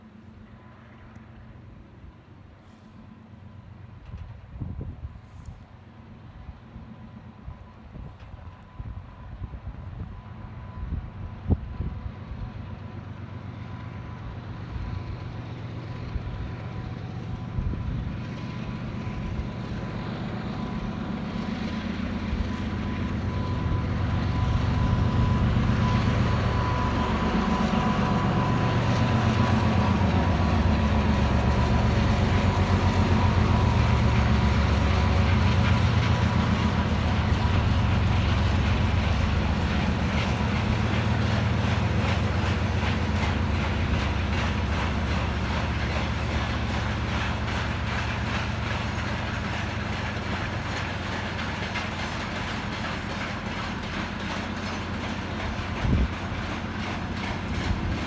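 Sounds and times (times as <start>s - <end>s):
diesel locomotive engines running: 0.0s - 58.0s.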